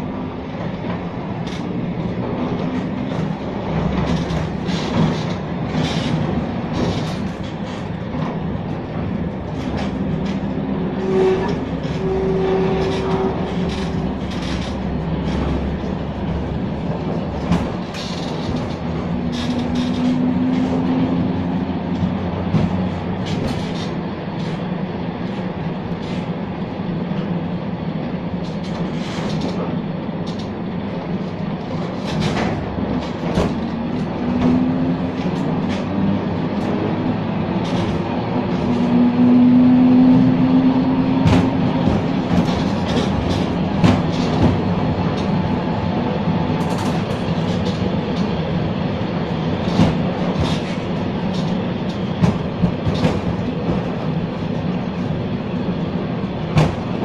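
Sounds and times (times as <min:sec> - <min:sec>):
tram wheels rumbling on track: 0:00.0 - 0:57.0
clacks and rattles: 0:00.2 - 0:57.0.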